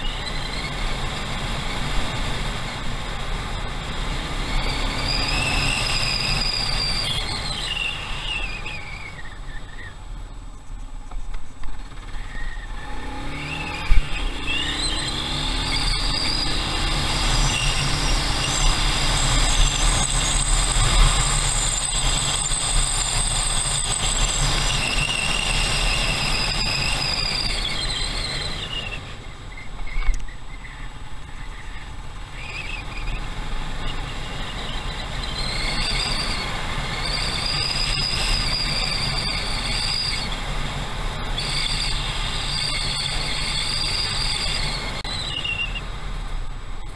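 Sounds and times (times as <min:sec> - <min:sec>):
high engine whine: 0:00.0 - 0:46.9
motorcycle engine rumble: 0:00.0 - 0:46.9.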